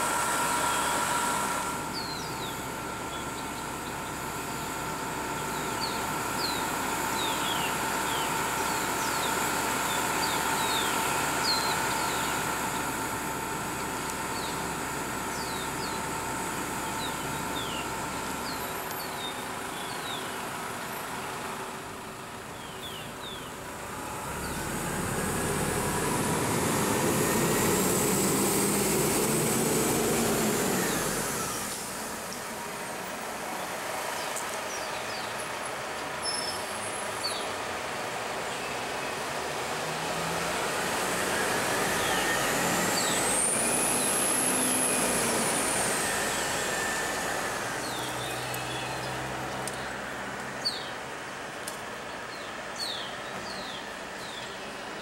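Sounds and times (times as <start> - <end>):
bus engines whining: 0.0 - 55.0
bus pulling away: 0.0 - 55.0.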